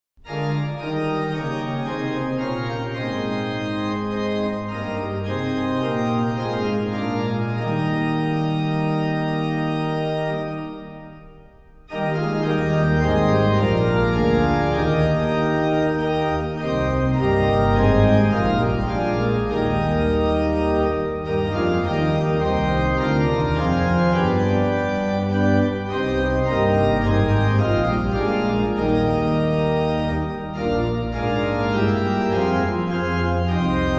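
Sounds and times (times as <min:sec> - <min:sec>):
deep organ bass notes: 0:00.2 - 0:33.9
organ playing sustained chords: 0:00.2 - 0:33.9.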